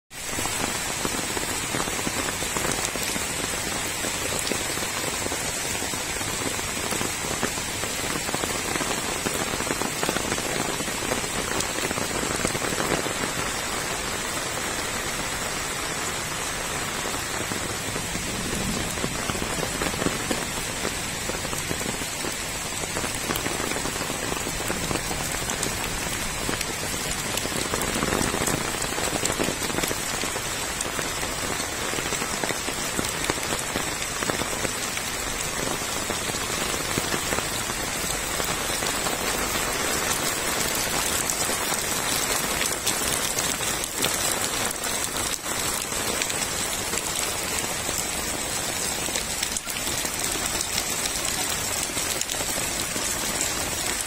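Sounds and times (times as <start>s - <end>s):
heavy rain splashing on foliage: 0.1s - 54.0s.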